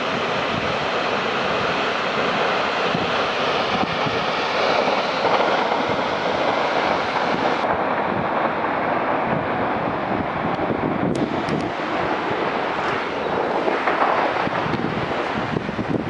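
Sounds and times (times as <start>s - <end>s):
floodwater rushing over spillway: 0.0s - 10.3s, 11.1s - 16.0s
wind noise on microphone: 0.0s - 16.0s.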